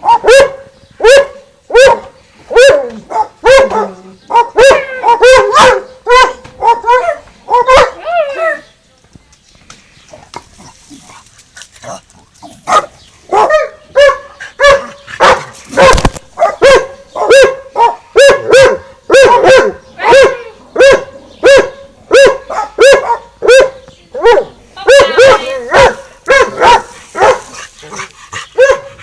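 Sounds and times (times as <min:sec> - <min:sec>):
dogs barking: 0:00.0 - 0:08.7, 0:11.8 - 0:29.0.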